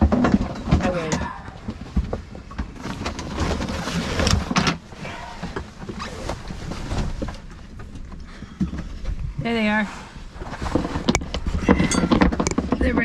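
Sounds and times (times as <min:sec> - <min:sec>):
gear rustling and scraping: 0:00.0 - 0:13.0.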